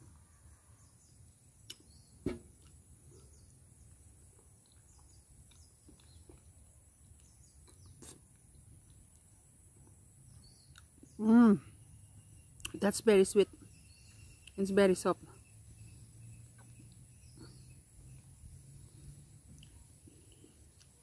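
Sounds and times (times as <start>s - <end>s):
faint bird chirps: 0.0s - 21.0s.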